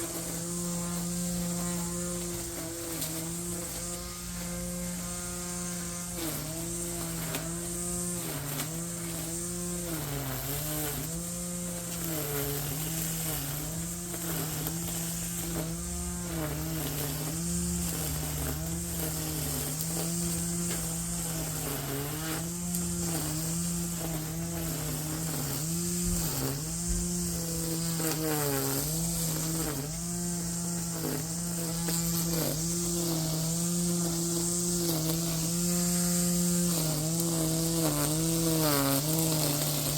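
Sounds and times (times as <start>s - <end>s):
edger motor bogging while cutting: 0.0s - 39.9s.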